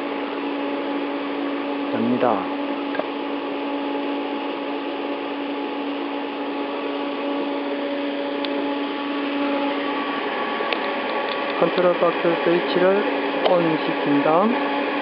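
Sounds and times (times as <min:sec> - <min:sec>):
welding power source humming: 0:00.0 - 0:15.0.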